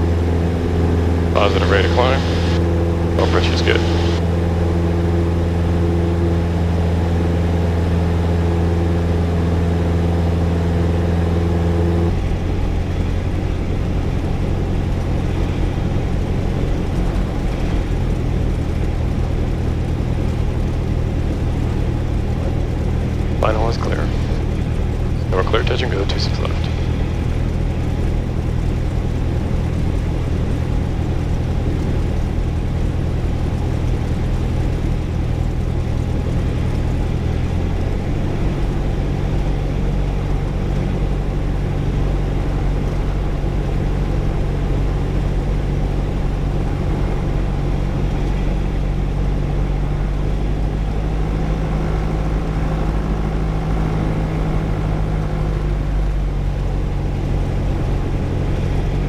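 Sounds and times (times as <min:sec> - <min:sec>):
light airplane engine running: 0:00.0 - 0:59.0.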